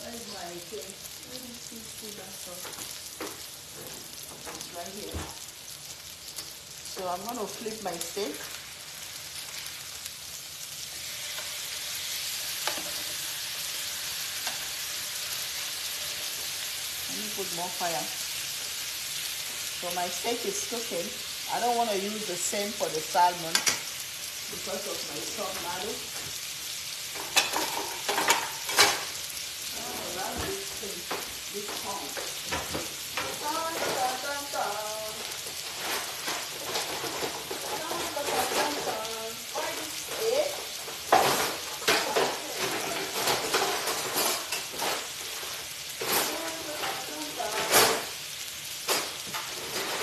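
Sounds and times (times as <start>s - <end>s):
meat and fish sizzling on griddle: 0.0s - 50.0s.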